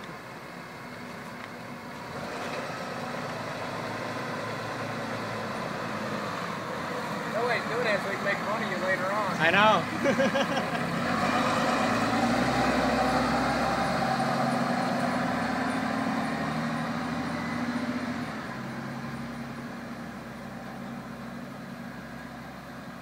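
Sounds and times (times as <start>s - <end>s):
truck engine driving off: 0.0s - 23.0s.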